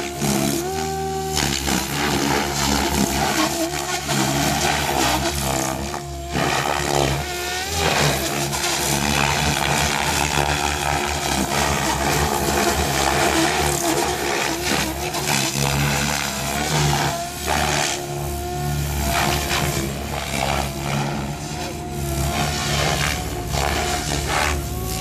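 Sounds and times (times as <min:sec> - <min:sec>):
rc helicopter motor and rotor whining: 0:00.0 - 0:25.0.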